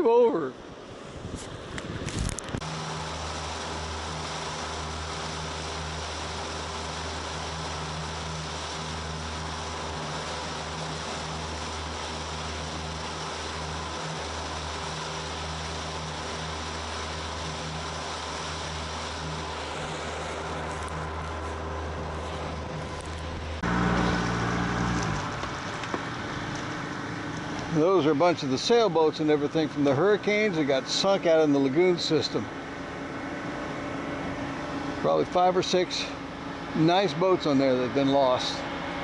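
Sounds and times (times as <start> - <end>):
wind and water rushing: 0.0 - 39.0
outboard motor running: 0.1 - 39.0.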